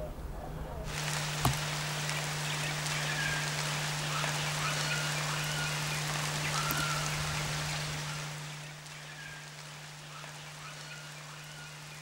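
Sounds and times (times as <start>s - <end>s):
high whistled calls: 0.9s - 12.0s
steady hiss: 0.9s - 12.0s.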